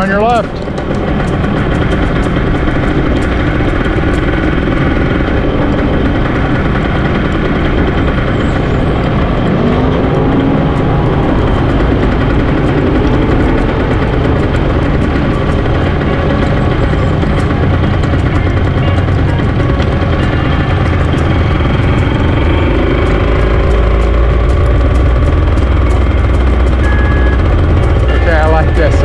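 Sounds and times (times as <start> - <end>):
road and wind noise: 0.0 - 29.0
second engine rising and falling: 0.0 - 29.0
vehicle engine running: 0.0 - 29.0.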